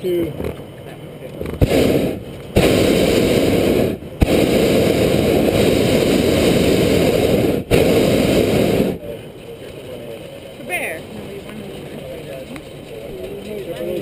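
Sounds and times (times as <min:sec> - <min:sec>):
propane burner blasts: 0:00.0 - 0:14.0.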